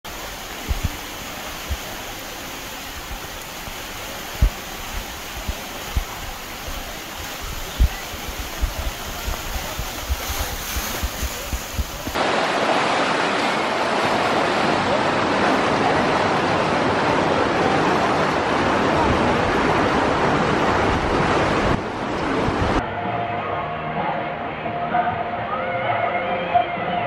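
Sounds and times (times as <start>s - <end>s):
water rushing down a channel: 0.1s - 22.8s.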